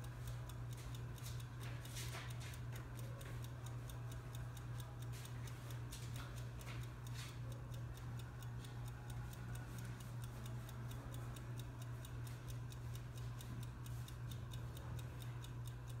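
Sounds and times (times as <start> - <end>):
rapid ticking: 0.0 - 16.0.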